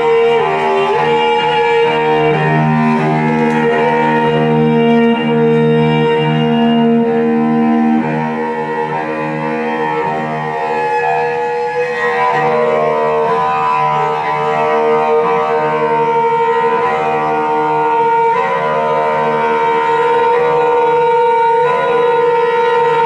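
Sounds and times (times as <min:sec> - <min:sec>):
cello bowed in long notes: 0:00.0 - 0:23.0.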